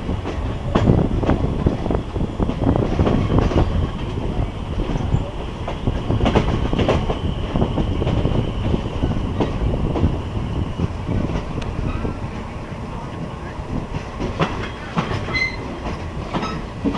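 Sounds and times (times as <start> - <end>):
train rumbling: 0.0 - 16.9
train wheels clacking on rails: 0.0 - 16.9.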